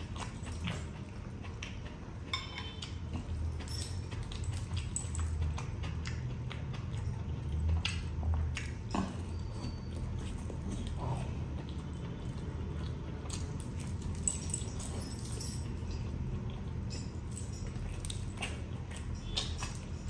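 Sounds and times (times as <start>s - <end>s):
wet chewing and mouth sounds: 0.0s - 20.0s.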